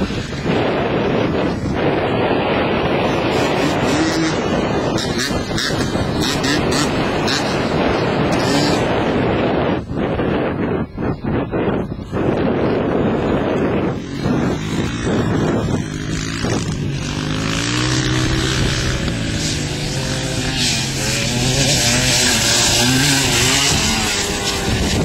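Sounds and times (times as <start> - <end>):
dirt bike engine revving: 0.0 - 10.8, 11.6 - 25.0
wind buffeting microphone: 0.0 - 25.0.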